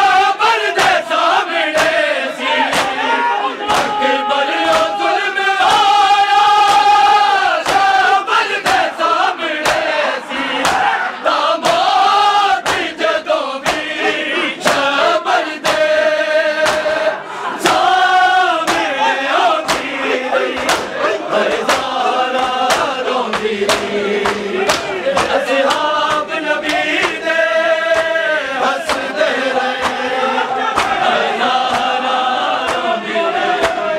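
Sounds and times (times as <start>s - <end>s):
men chanting a lament: 0.0s - 33.9s.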